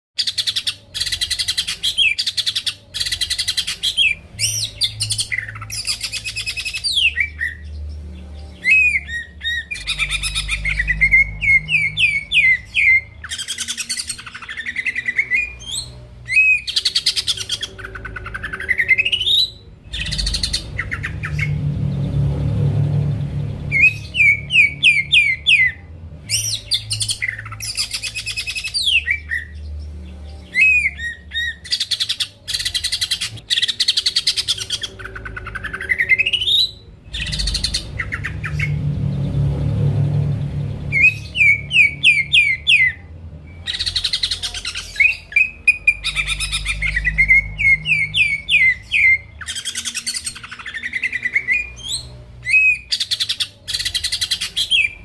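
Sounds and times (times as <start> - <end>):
bird singing trills and whistles: 0.2 - 22.3, 23.4 - 39.5, 40.2 - 55.0
low steady hum: 2.8 - 55.0.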